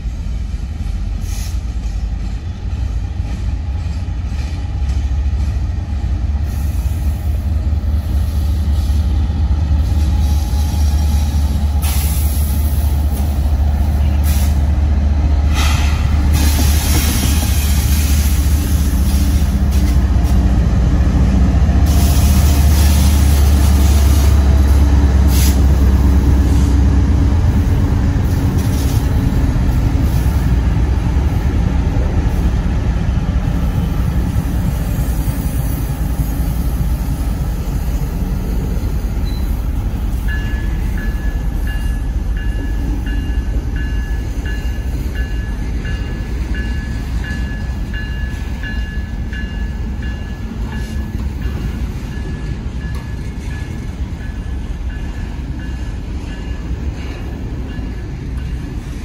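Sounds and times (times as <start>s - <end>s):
train engine rumble: 0.0s - 59.0s
train rail noise: 0.0s - 59.0s.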